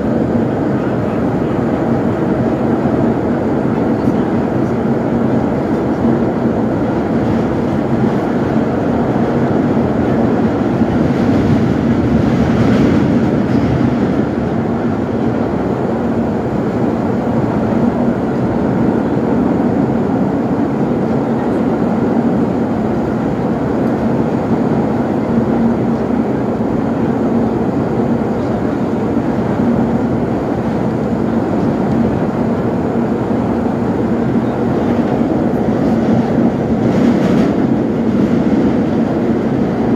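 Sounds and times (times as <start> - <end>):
subway train wheels rumbling: 0.0 - 39.9.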